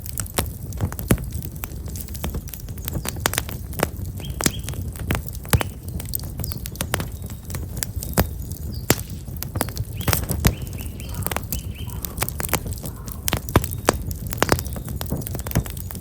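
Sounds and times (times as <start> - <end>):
fire crackling and popping: 0.0 - 16.0
low rumble of fire: 0.0 - 16.0
small birds chirping: 1.4 - 16.0.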